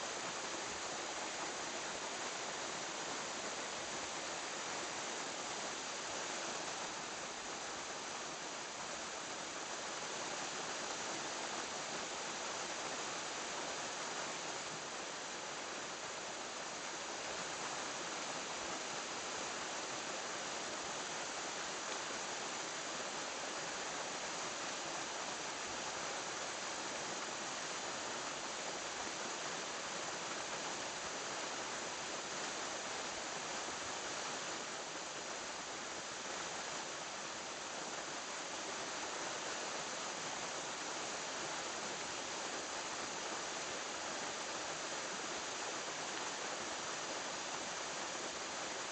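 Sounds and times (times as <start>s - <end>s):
hiss of running water: 0.0s - 48.9s.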